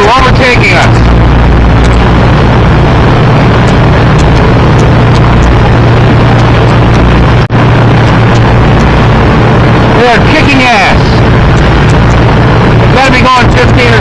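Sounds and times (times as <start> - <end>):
motorboat engine drone: 0.0 - 14.0
rush of wind and water: 0.0 - 14.0.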